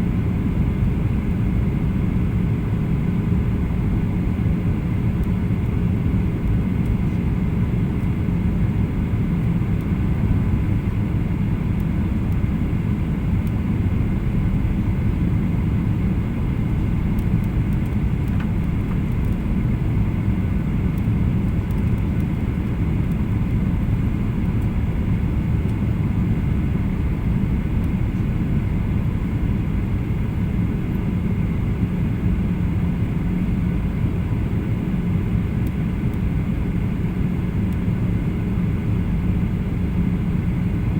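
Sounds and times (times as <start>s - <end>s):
faint steady whine: 0.0s - 40.9s
jet engine and airflow drone: 0.0s - 40.9s.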